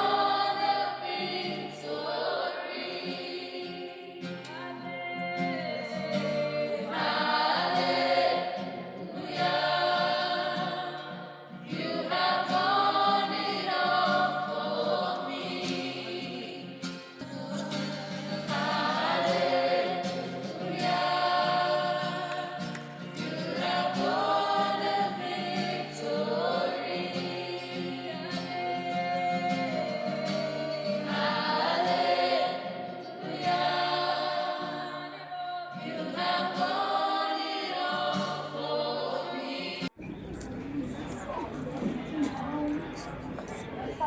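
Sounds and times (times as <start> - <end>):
choir singing a gospel hymn: 0.0 - 44.0.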